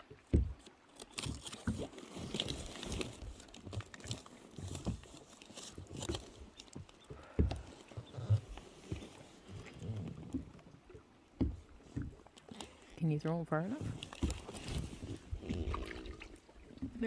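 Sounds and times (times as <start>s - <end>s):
water slapping against boat hull: 0.0s - 17.0s.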